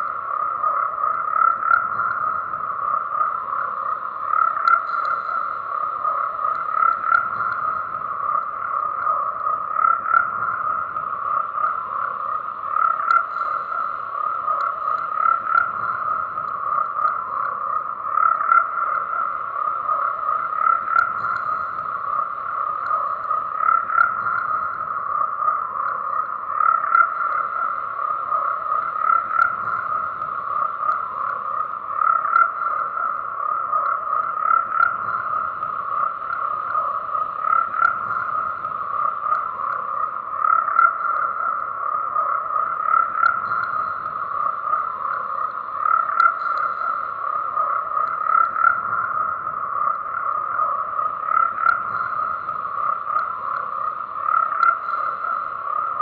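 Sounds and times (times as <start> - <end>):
frogs croaking: 0.0 - 56.0
louder frog call: 0.0 - 56.0.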